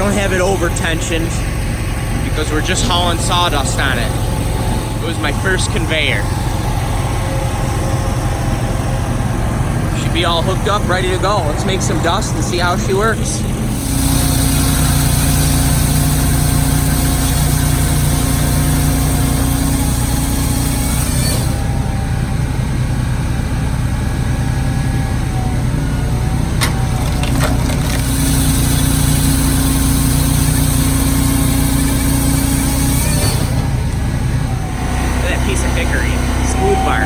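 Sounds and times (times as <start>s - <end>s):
engine running under load: 0.0s - 37.0s
high hydraulic whine: 0.0s - 37.0s.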